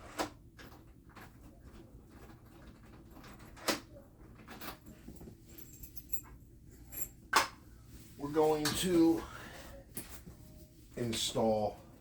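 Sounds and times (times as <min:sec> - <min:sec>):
faint handling noise: 0:00.6 - 0:12.0.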